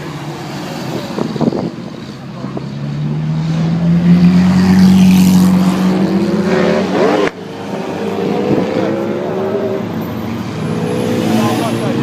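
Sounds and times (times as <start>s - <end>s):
loud sports car engine: 0.0s - 12.0s.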